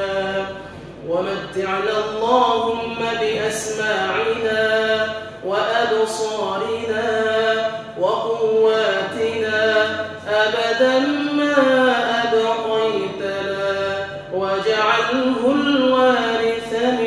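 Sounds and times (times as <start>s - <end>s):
man chanting melodic phrases: 0.0s - 17.0s.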